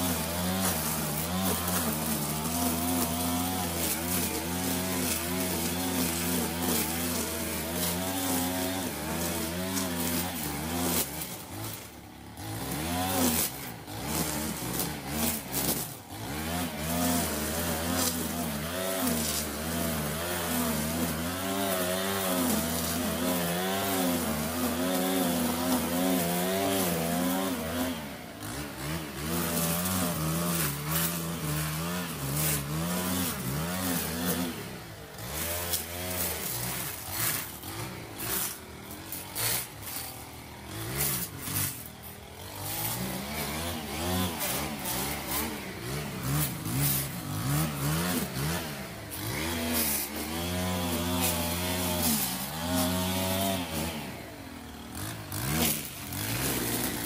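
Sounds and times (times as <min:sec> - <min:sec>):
string trimmer cutting grass: 0:00.0 - 0:57.0.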